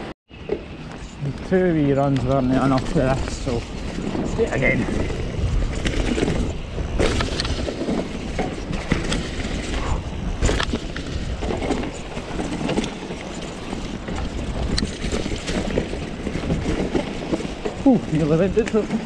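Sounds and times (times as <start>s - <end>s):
bike rattling: 0.3s - 19.0s
bike tyres rolling on dirt: 0.3s - 19.0s.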